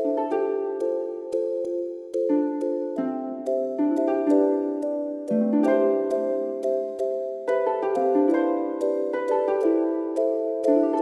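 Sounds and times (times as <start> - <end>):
gentle plucked instrumental music: 0.0 - 11.0.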